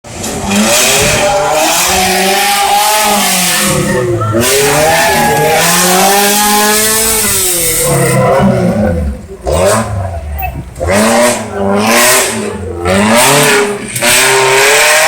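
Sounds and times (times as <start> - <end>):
heavy rushing noise: 0.0 - 15.0
off-road engine revving hard: 0.1 - 15.0.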